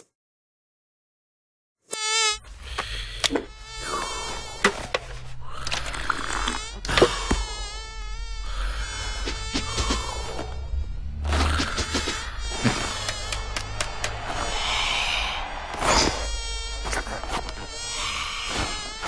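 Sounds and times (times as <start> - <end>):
cartoon fly buzzing: 1.9 - 19.0
low hum: 3.5 - 19.0.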